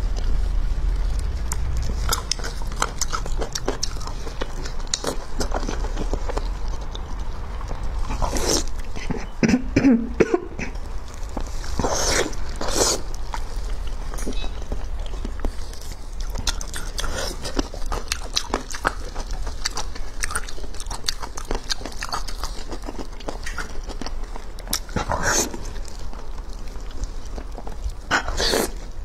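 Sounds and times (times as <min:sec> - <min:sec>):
close chewing: 0:00.0 - 0:09.7, 0:10.5 - 0:29.0.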